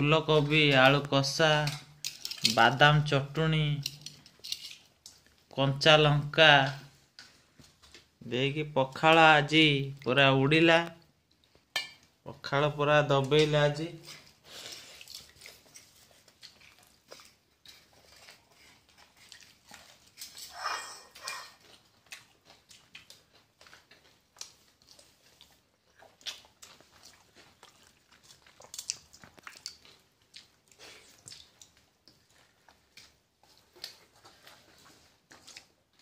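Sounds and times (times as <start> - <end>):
chewing and wet mouth sounds: 0.0 - 5.6, 10.9 - 12.3, 13.3 - 36.0.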